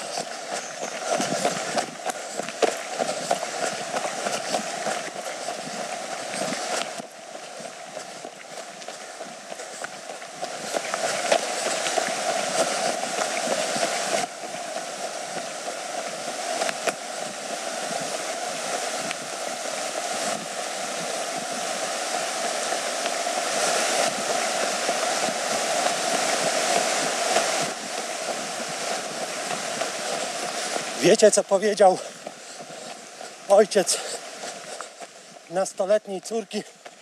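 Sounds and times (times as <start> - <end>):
footsteps on gravel path: 0.0 - 37.0
river rapids rushing: 0.0 - 37.0.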